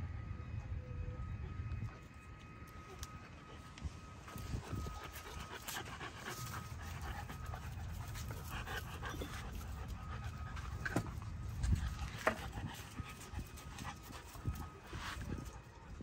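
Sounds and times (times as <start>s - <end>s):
puppy panting: 3.0s - 16.0s.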